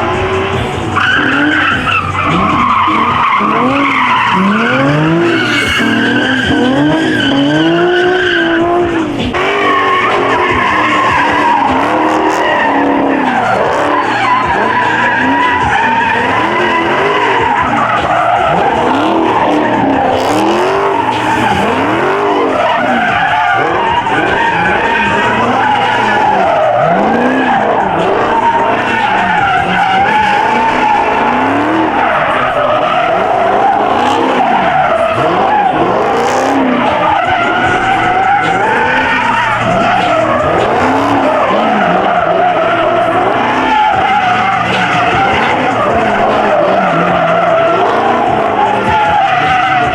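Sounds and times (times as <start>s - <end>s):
car engines revving: 0.0s - 49.9s
tyres squealing: 0.0s - 49.9s.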